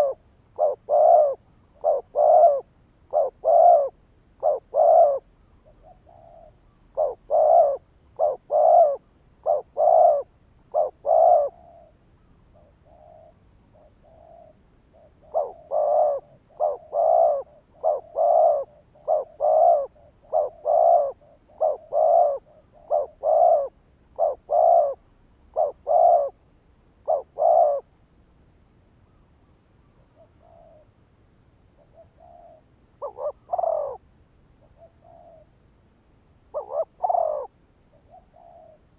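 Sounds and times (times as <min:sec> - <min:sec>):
dove cooing: 0:00.0 - 0:28.0, 0:29.9 - 0:31.0, 0:31.8 - 0:35.6, 0:36.5 - 0:38.9.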